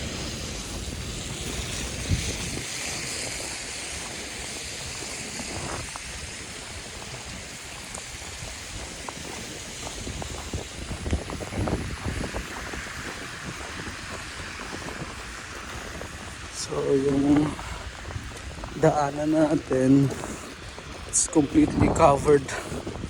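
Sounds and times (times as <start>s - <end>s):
soft footfalls in snow: 0.0s - 23.0s
wind rushing over microphone: 0.0s - 23.0s.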